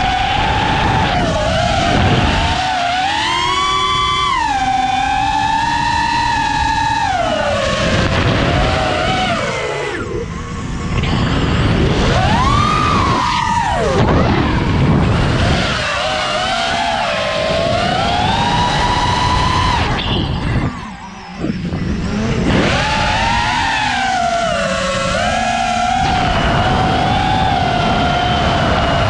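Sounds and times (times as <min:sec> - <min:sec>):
drone motors whining: 0:00.0 - 0:29.0
wind on microphone: 0:00.0 - 0:29.0.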